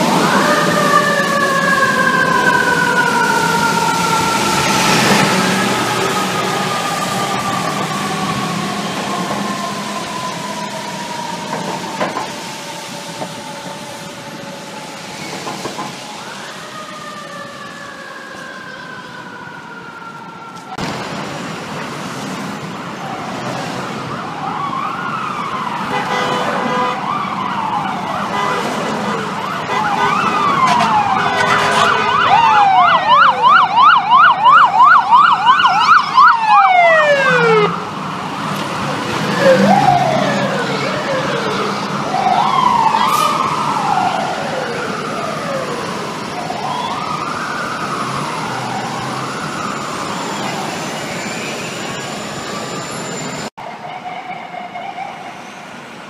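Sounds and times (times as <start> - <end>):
city traffic: 0.0 - 56.0
fire truck sirens: 0.0 - 56.0.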